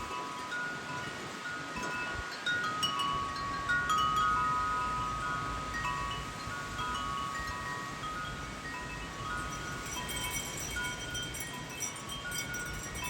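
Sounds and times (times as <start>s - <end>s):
wind chimes ringing: 0.0s - 13.0s
wind rumble on microphone: 0.0s - 13.0s.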